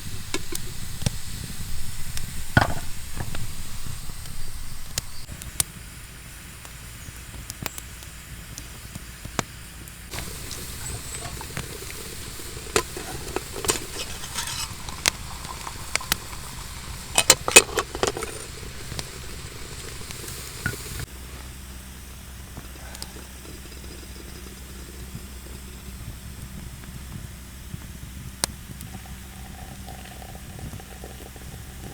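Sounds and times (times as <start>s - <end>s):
fire crackling: 0.0s - 31.9s
soft sizzle and hiss: 0.0s - 31.9s.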